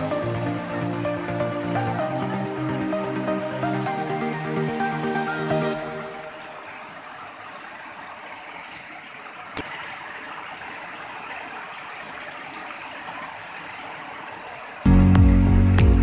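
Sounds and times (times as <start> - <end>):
water rushing over rocks: 0.0 - 14.9.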